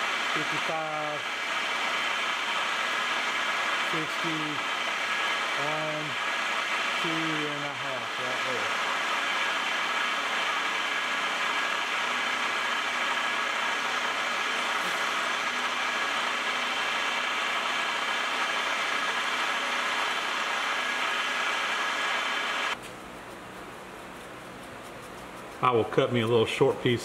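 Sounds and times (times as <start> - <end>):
milling machine whining: 0.0 - 22.8.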